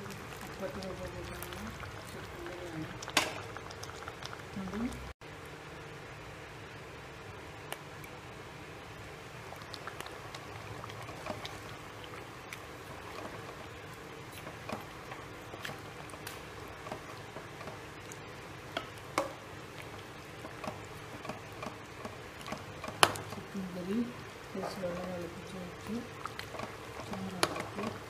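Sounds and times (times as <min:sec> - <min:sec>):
curry gravy squelching: 0:00.0 - 0:05.2, 0:09.3 - 0:28.0.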